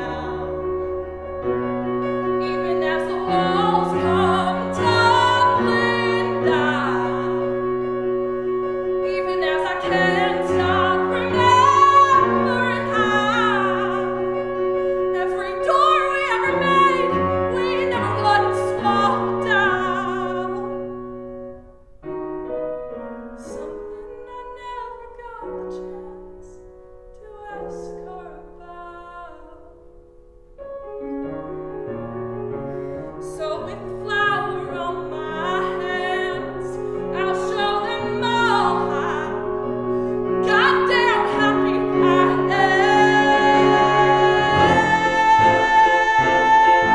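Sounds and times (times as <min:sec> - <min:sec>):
woman singing: 0:00.0 - 0:00.9, 0:02.3 - 0:07.6, 0:08.9 - 0:20.8, 0:23.4 - 0:29.7, 0:33.2 - 0:46.9
grand piano: 0:00.0 - 0:46.9.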